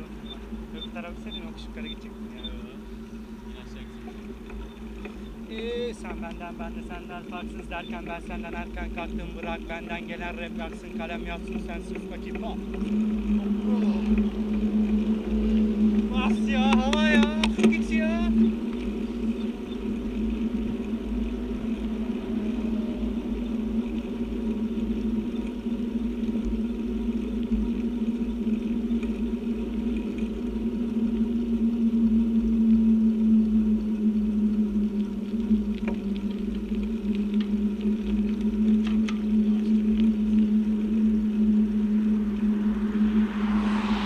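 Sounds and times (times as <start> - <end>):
bicycle tyres humming on road: 0.0 - 44.0
wind rumbling on microphone: 0.0 - 44.0.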